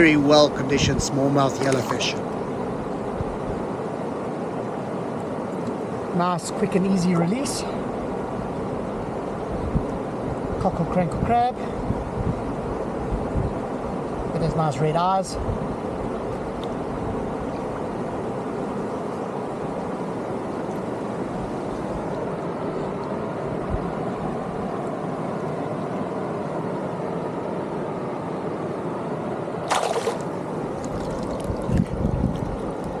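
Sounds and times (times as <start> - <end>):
stream water running: 0.0 - 28.0, 29.2 - 33.0.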